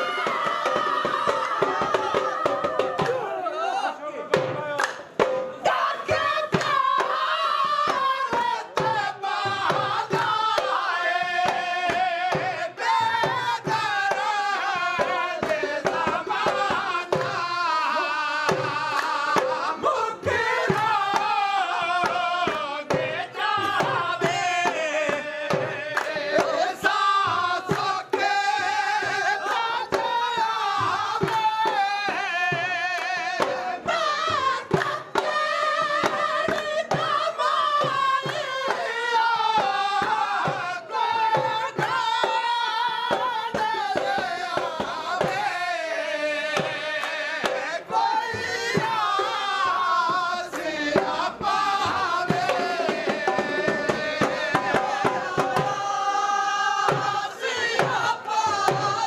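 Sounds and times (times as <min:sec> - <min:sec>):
drum beating steady rhythm: 0:00.0 - 0:59.0
men singing folk song: 0:00.0 - 0:59.0.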